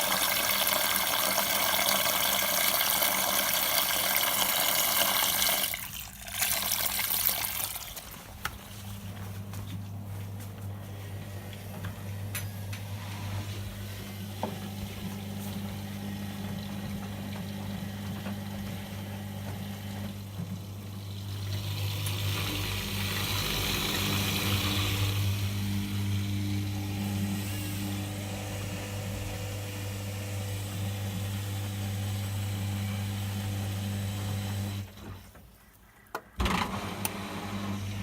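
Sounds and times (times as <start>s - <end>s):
washing machine electric hum: 0.0s - 35.3s, 36.4s - 38.0s.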